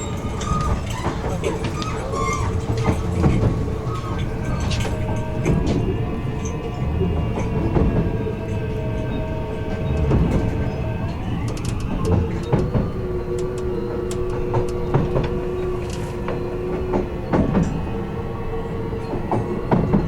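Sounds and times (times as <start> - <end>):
train motors whining: 0.0 - 20.0
train running noise: 0.0 - 20.0
wheels clacking over rail joints: 0.0 - 20.0.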